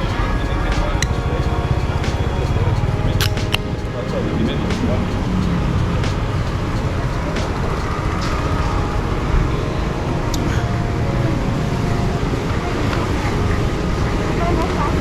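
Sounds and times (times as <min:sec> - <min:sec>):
faint voices: 0:00.0 - 0:15.0
road traffic rumble: 0:00.0 - 0:15.0.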